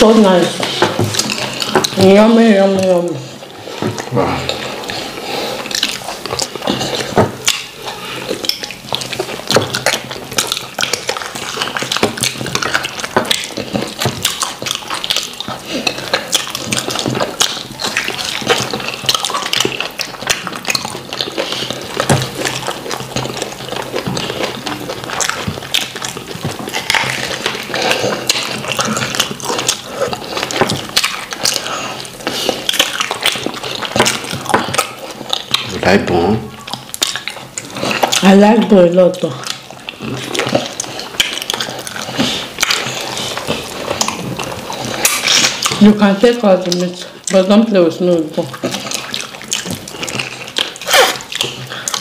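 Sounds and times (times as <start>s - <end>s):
wet chewing and slurping: 0.0s - 52.0s.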